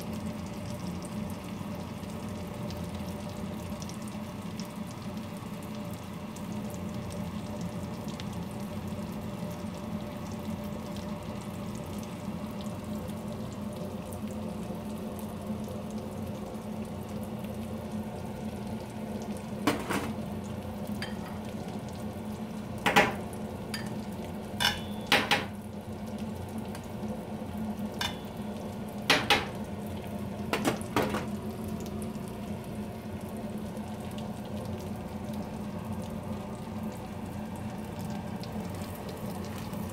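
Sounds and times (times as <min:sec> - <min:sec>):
food sizzling in frying pan: 0:00.0 - 0:39.9.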